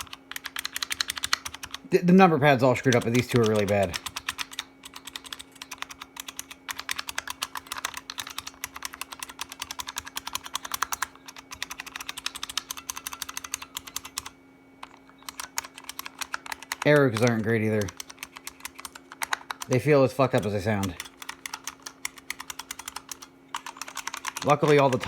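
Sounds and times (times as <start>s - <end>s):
keyboard keys clacking: 0.0s - 1.8s, 2.6s - 25.0s
faint electrical hum: 0.0s - 25.0s.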